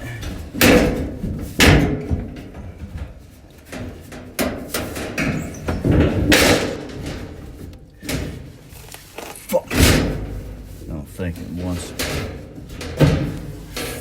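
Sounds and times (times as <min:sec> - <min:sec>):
sheet metal knocks and scrapes: 0:00.0 - 0:14.0.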